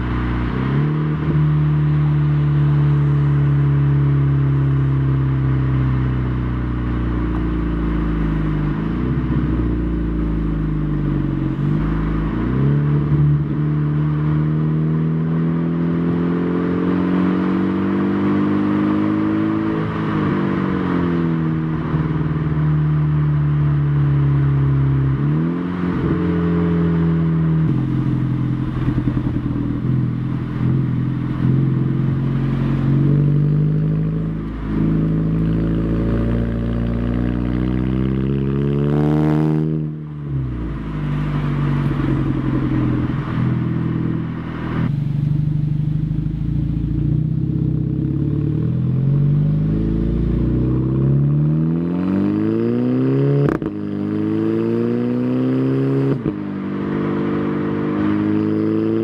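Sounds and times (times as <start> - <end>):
car exhaust accelerating: 0.0 - 59.0.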